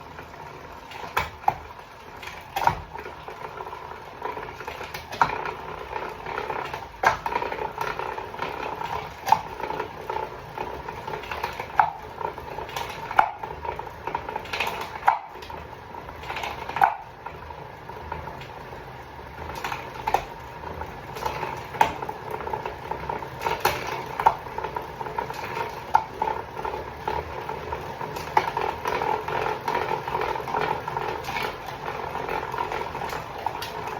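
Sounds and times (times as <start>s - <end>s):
bicycle drivetrain whirring: 0.0s - 33.9s.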